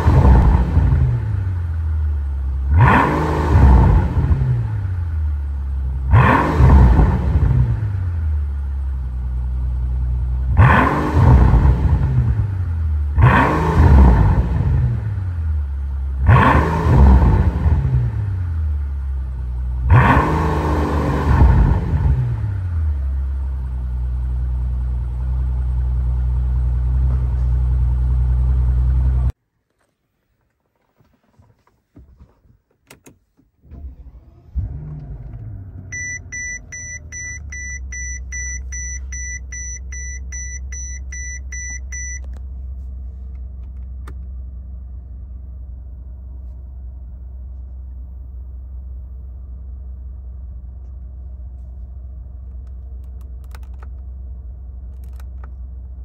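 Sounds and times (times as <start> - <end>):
car engine revving and idling: 0.0 - 29.4, 33.7 - 56.0.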